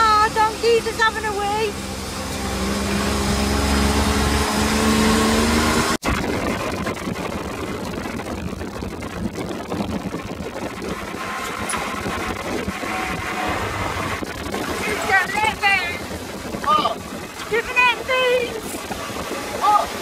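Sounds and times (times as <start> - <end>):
buggy engine revving: 0.0 - 20.0
buggy rumbling over dirt track: 0.0 - 20.0
wind noise: 2.5 - 20.0.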